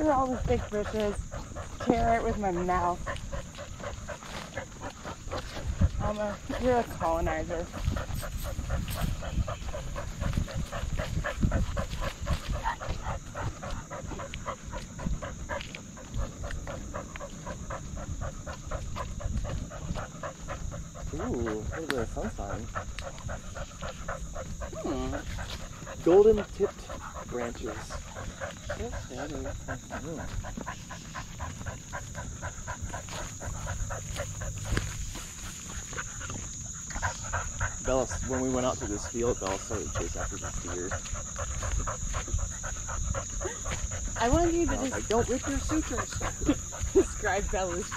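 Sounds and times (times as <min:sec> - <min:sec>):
dog panting: 0:00.0 - 0:47.9
wind and jostling rumble: 0:00.0 - 0:47.9.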